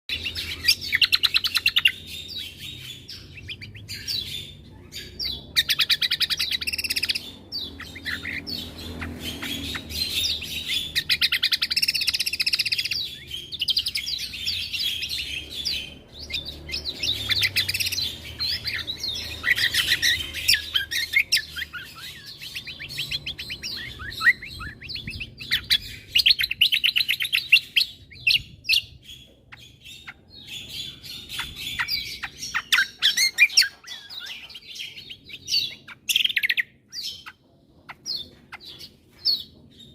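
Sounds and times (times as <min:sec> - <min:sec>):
songbird chirps and trills: 0:00.1 - 0:39.9.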